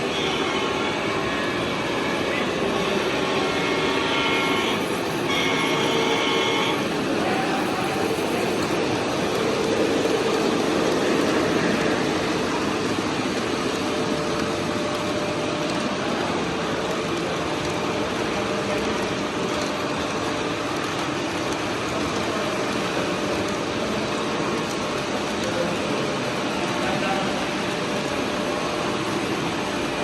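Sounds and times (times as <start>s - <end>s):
model train wheels rumbling on track: 0.0s - 30.0s.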